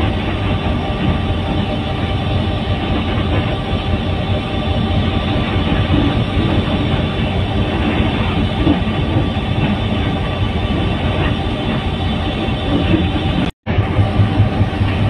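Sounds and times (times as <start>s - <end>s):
train carriage noise: 0.0s - 15.0s
train wheels rumbling on rails: 0.0s - 15.0s.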